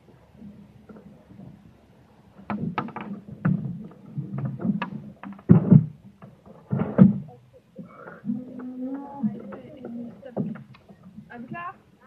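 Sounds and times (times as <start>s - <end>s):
paddle knocking: 0.0s - 12.0s
water splashes: 0.0s - 12.0s.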